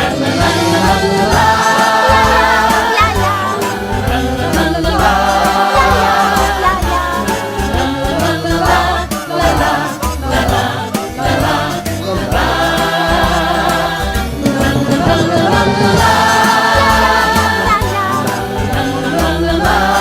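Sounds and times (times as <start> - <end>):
choir singing: 0.0 - 20.0
upbeat accompaniment with bass: 0.0 - 20.0.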